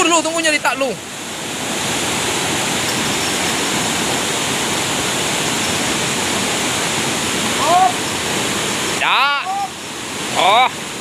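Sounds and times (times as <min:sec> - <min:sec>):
fast-flowing river water rushing: 0:00.0 - 0:11.0.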